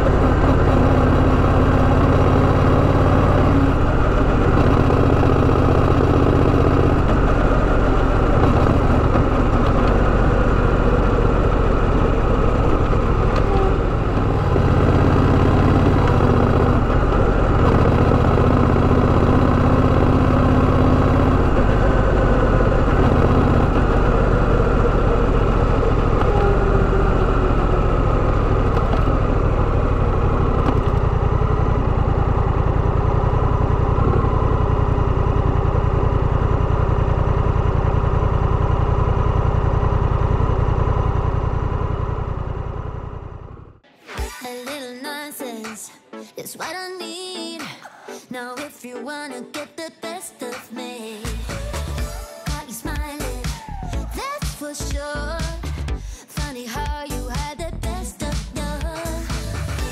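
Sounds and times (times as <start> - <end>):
motorcycle engine running: 0.0 - 43.8, 51.3 - 59.9.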